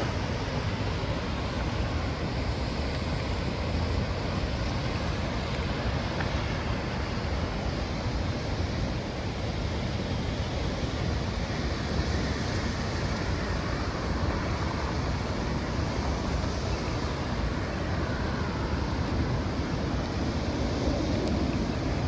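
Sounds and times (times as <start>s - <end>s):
heavy rain: 0.0s - 22.0s
storm wind: 0.0s - 22.0s
wind rumbling on microphone: 0.0s - 22.0s.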